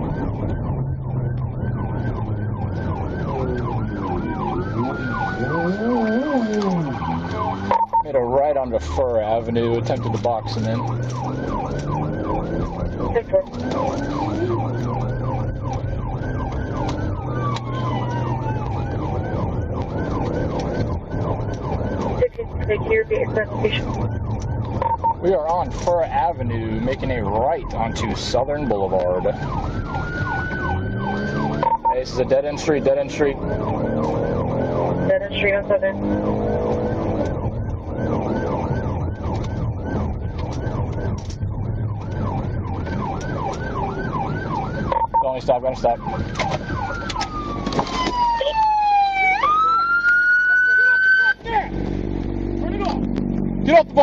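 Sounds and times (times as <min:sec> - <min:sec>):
falling siren tone: 0:00.0 - 0:53.6
engine hum: 0:00.0 - 0:54.0
police siren yelping: 0:00.0 - 0:54.0.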